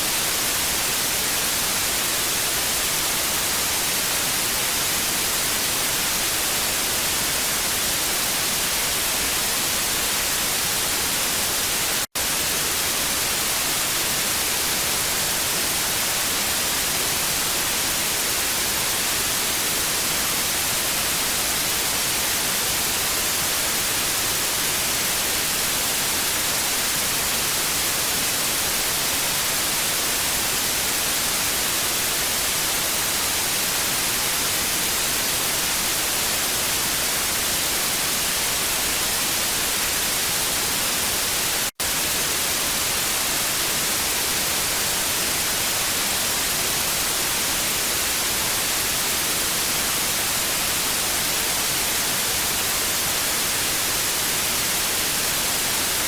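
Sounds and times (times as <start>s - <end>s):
television static hiss: 0.0s - 56.0s.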